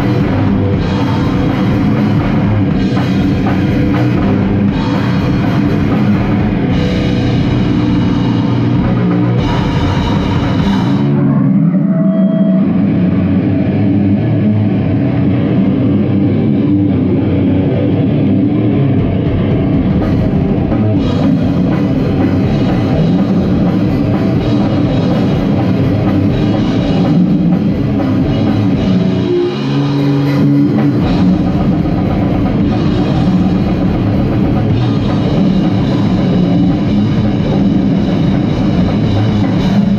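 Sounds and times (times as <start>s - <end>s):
metal band playing loud: 0.0s - 39.9s.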